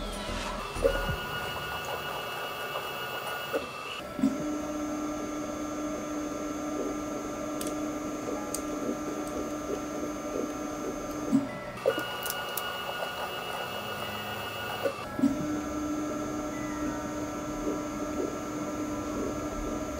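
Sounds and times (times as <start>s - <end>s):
motor drive whine: 0.0s - 19.9s.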